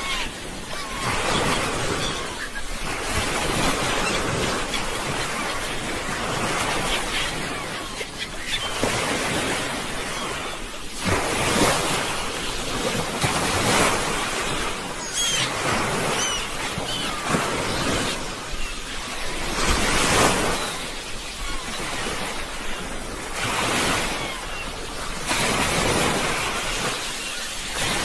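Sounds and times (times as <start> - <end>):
sea waves breaking on shore: 0.0 - 28.0.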